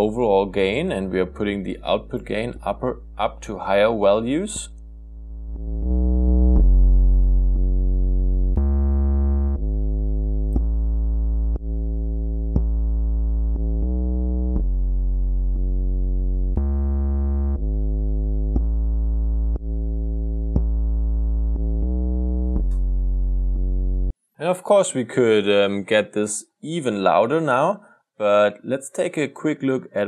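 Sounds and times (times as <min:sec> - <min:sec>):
synth bass sustained notes: 0:00.0 - 0:24.1.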